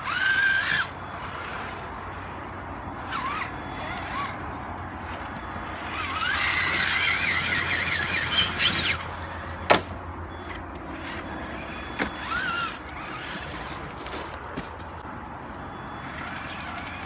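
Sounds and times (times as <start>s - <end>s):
electric motor whine: 0.0s - 14.8s, 15.5s - 17.0s.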